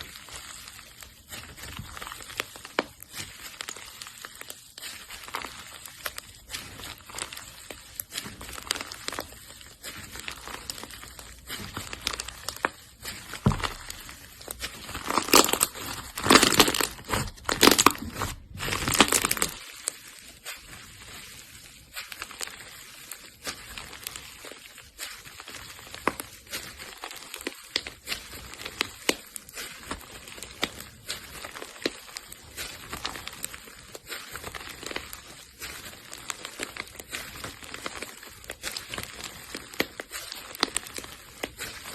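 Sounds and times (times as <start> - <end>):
slime squishing crackles: 0.0 - 41.9.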